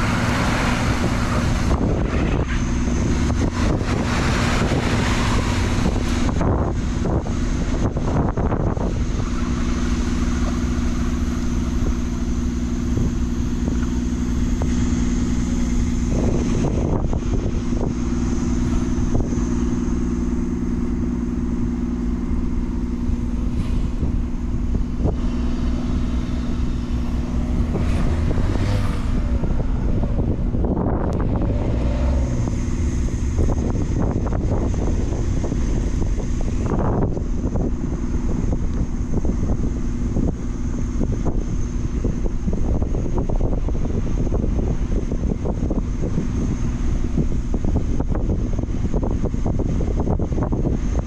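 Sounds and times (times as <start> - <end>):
vehicle engines idling: 0.0 - 51.0.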